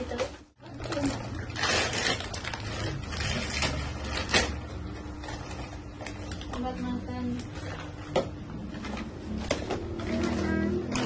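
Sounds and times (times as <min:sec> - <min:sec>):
wrapping paper rustling: 0:00.0 - 0:11.0.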